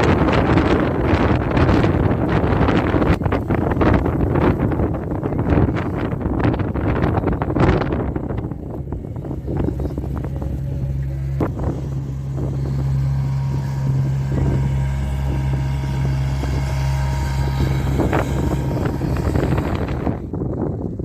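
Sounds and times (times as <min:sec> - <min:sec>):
vehicle engine hum: 0:00.0 - 0:21.0
wind on microphone: 0:00.0 - 0:21.0.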